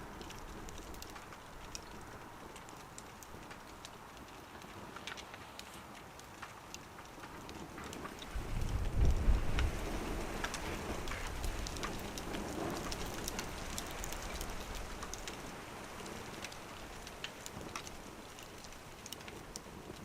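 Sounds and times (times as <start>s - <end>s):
firewood crackling in wood stove: 0.0s - 20.0s.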